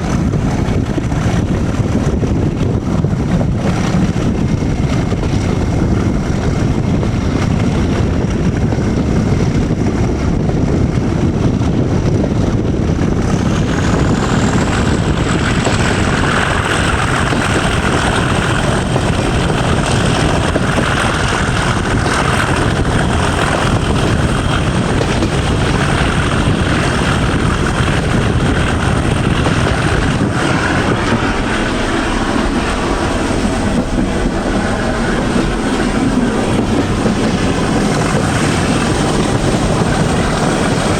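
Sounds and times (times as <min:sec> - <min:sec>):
diesel locomotive engine working hard: 0:00.0 - 0:40.9.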